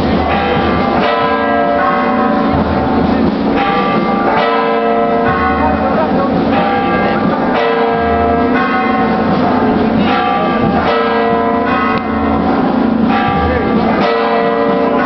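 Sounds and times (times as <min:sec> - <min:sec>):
church bells pealing: 0:00.0 - 0:15.0
crowd murmuring: 0:00.0 - 0:15.0.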